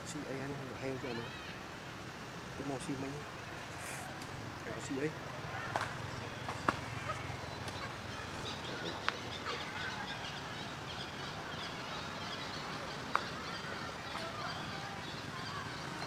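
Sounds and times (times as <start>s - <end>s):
faint bird calls: 0.0s - 1.8s, 2.6s - 16.0s.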